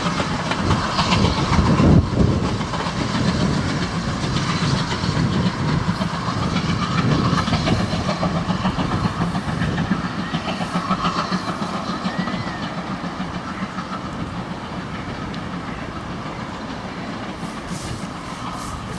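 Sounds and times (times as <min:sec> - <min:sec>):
steam train moving off: 0:00.0 - 0:18.9
wheels clicking over rail joints: 0:00.0 - 0:18.9.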